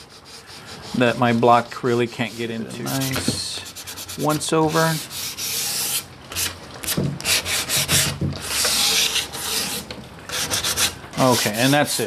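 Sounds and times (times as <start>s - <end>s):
sandpaper rubbing on wood: 0.0s - 6.5s, 7.3s - 12.0s.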